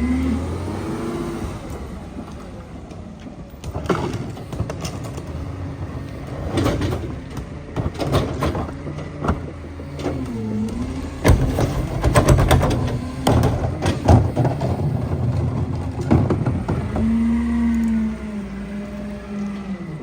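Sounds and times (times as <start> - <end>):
garbage truck engine under load: 0.0 - 20.0
trash cracking and crunching: 3.2 - 19.6.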